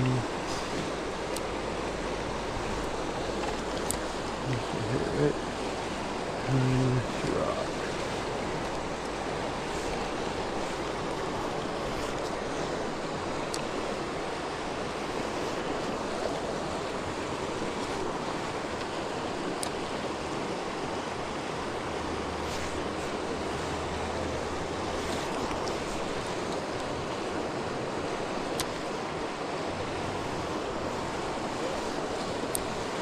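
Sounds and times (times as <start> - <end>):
creek water flowing over rocks: 0.0 - 33.0.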